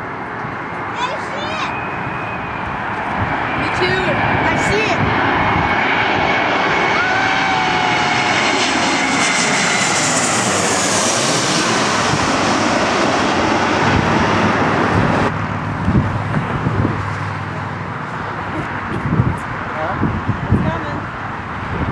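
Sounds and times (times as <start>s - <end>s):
airliner engine rush passing: 0.0s - 21.9s.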